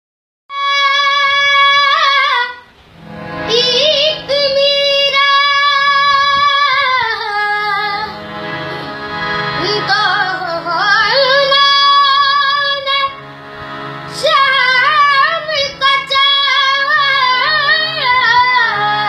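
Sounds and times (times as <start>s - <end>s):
child singing: 0.5s - 2.6s, 3.5s - 8.1s, 9.6s - 13.2s, 14.1s - 19.0s.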